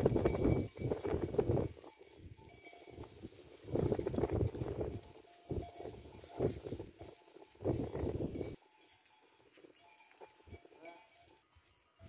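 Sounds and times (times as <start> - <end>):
goat bells clinking: 0.0 - 12.0.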